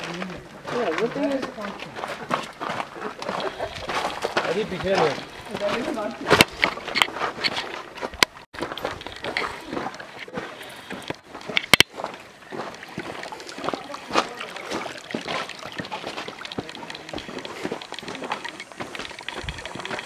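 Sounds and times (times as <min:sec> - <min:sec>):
water trickling over stones: 0:00.0 - 0:06.2, 0:07.8 - 0:20.0
footsteps on gravel: 0:00.0 - 0:20.0.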